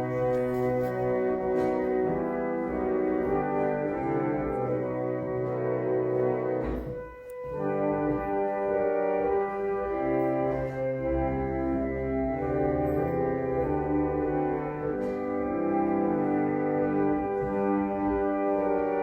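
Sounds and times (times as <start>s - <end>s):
church organ playing chords: 0.0s - 19.0s.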